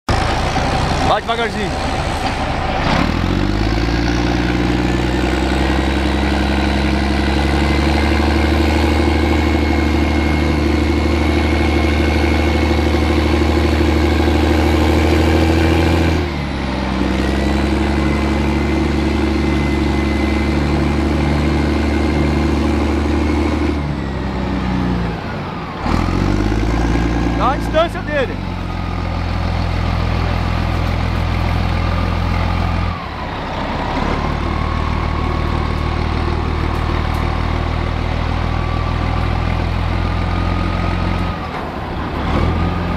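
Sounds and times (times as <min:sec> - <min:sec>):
armoured vehicle engine running: 0:00.1 - 0:42.9.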